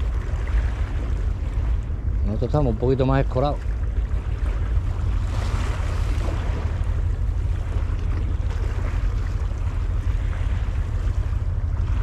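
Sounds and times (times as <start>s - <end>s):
sea washing against concrete: 0.0s - 12.0s
wind rumbling on microphone: 0.0s - 12.0s.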